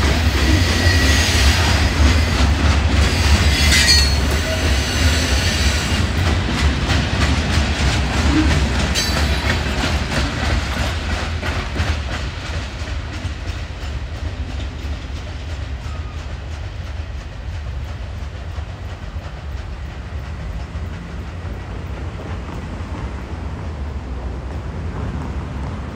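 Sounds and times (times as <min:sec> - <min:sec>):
train rumble: 0:00.0 - 0:25.9
train wheels clicking over rail joints: 0:00.0 - 0:25.9.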